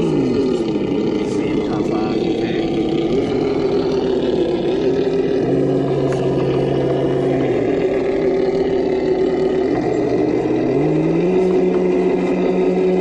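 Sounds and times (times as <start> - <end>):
rc car electric motor whine: 0.0 - 13.0.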